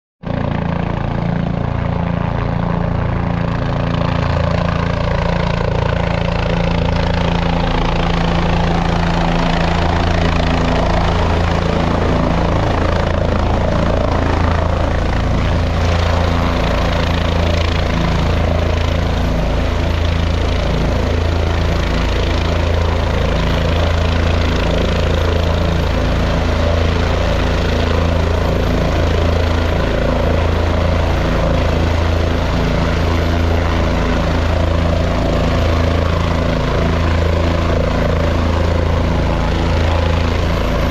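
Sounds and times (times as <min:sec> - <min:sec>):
helicopter rotor and turbine: 0:00.2 - 0:40.9.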